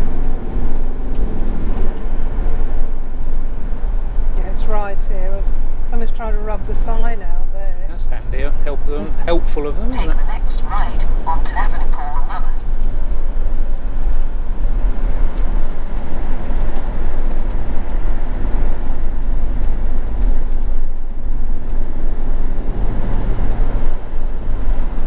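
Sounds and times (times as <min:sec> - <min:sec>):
motorhome engine and road noise: 0:00.0 - 0:25.0.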